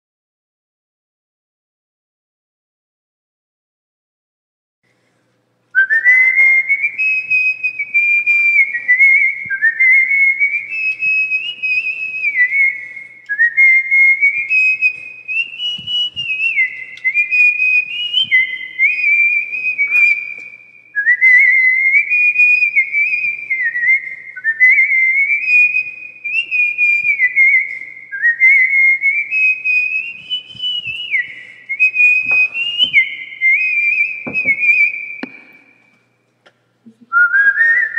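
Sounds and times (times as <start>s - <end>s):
person whistling a tune: 5.8s - 36.0s, 37.1s - 37.9s.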